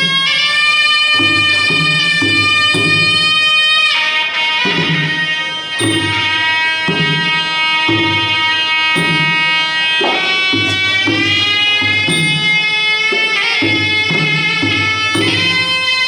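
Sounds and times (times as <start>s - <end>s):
drum rhythm: 0.0s - 16.0s
reed pipe melody: 0.0s - 16.0s.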